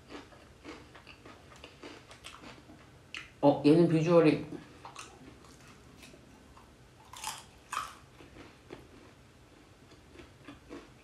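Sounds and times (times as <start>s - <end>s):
person chewing fried chicken: 0.0s - 3.3s, 4.8s - 11.0s.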